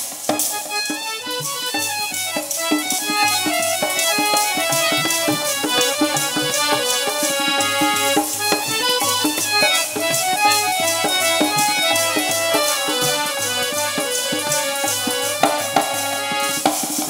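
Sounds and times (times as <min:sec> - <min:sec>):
hand drum beat: 0:00.0 - 0:17.0
harmonium melody: 0:00.0 - 0:17.0
jingling metal percussion: 0:00.0 - 0:17.0.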